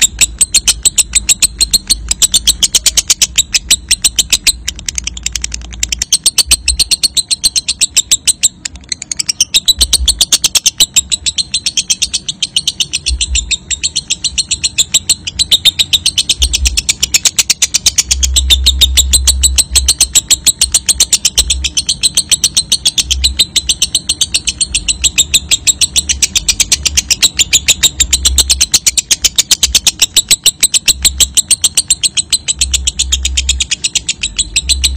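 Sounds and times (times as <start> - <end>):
lovebird chattering trill: 0.0 - 34.9.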